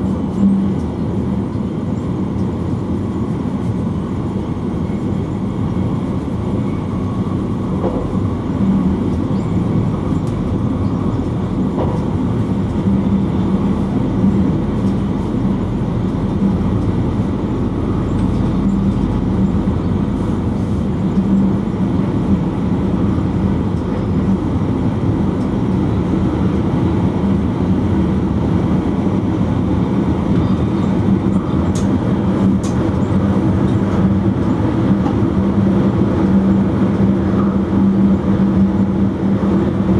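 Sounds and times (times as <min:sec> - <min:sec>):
constant low hum: 0:00.0 - 0:39.9
train wheels on rail: 0:00.0 - 0:39.9.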